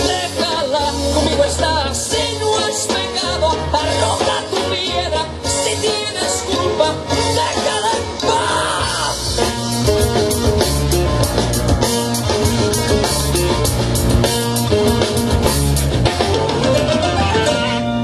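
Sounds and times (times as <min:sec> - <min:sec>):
rock band instrumental: 0:00.0 - 0:18.0.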